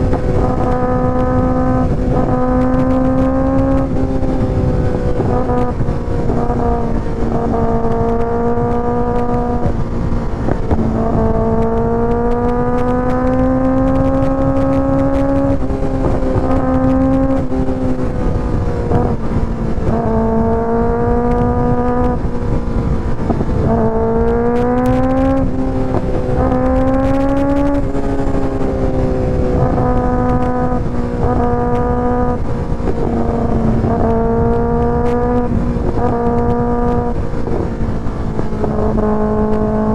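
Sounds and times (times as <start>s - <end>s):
constant low rush: 0.0s - 39.9s
motorcycle engine drone: 0.0s - 39.9s.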